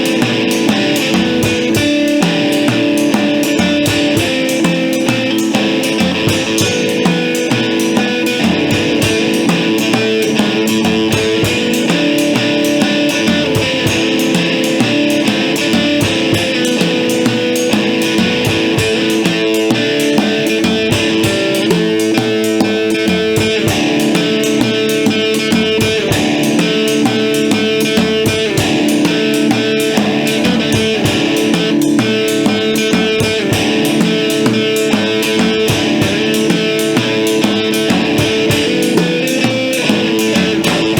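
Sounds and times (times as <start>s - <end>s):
drum kit beat: 0.0s - 40.9s
guitar chords ringing: 0.0s - 40.9s.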